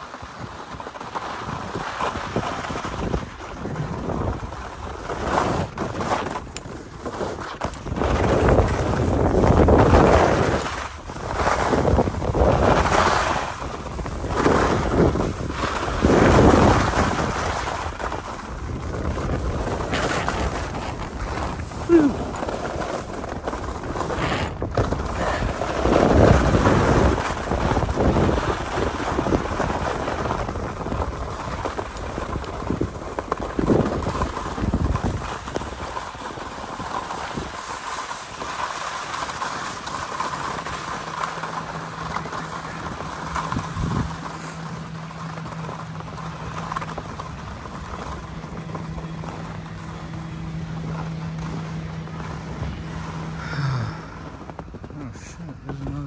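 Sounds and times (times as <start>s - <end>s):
skis scraping over snow: 0.0s - 56.0s
wind on microphone: 0.0s - 56.0s
steady low hum: 8.0s - 56.0s.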